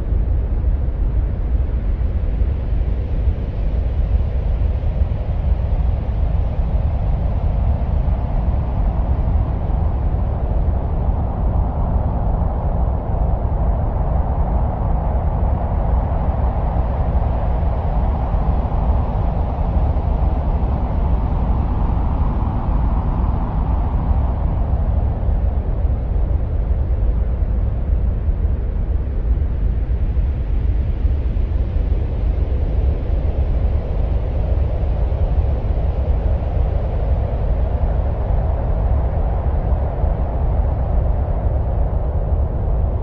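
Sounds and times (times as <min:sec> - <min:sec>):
deep wind-like rumbling: 0:00.0 - 0:43.0.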